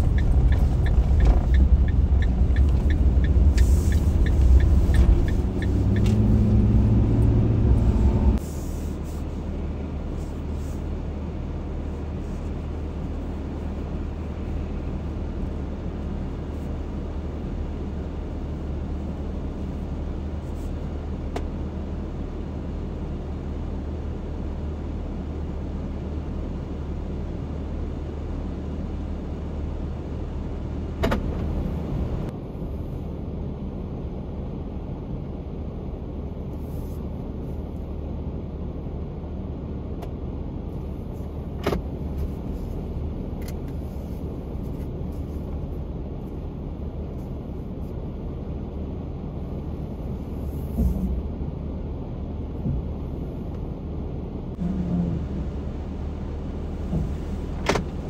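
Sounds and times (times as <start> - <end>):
van engine humming: 0.0 - 58.0.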